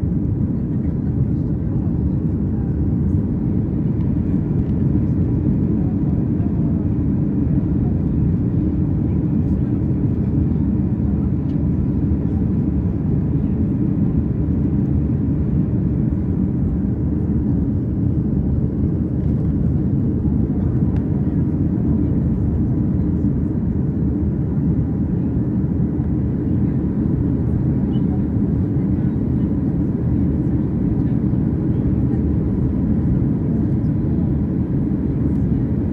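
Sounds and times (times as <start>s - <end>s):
jet engines and airflow rumble: 0.0s - 35.9s.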